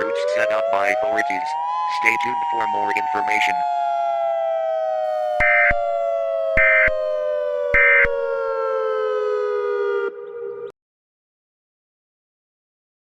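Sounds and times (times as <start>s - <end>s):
siren winding down: 0.0s - 10.8s.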